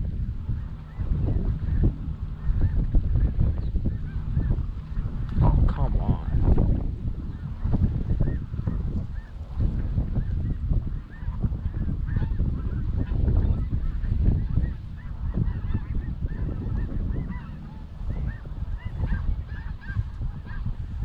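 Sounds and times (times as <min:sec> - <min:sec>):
loud low rumble: 0:00.0 - 0:21.0
geese honking: 0:00.4 - 0:21.0.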